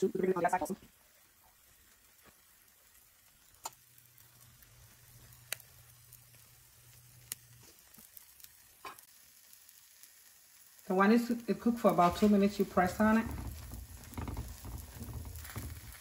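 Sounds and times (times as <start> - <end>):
omelette sizzling in a pan: 0.0 - 16.0.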